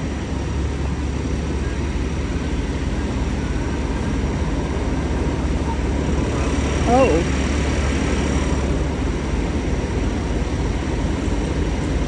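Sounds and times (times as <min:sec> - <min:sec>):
faint constant hum: 0:00.0 - 0:12.0
vehicle engine rumbling: 0:00.0 - 0:12.0.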